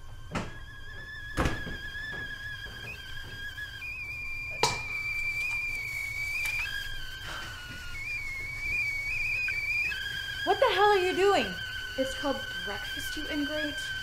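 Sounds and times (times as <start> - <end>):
kettle whistling: 0.0 - 14.0.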